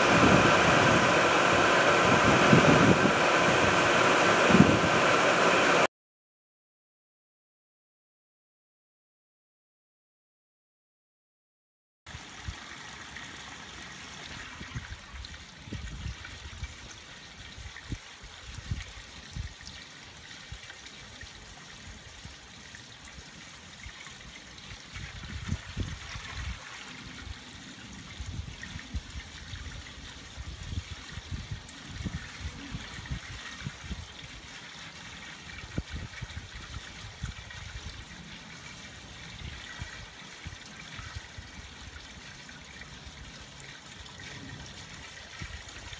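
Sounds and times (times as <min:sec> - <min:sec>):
water splashing into a pool: 0:00.0 - 0:05.9, 0:12.1 - 0:45.9.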